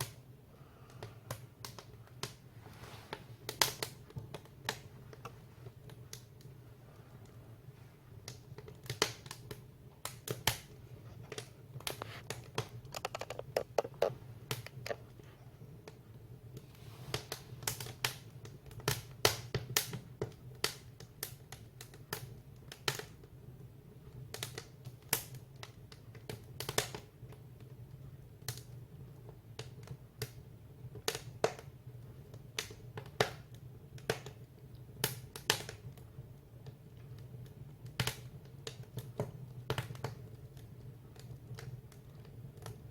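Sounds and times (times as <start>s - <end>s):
firewood crackling and popping: 0.0s - 42.9s.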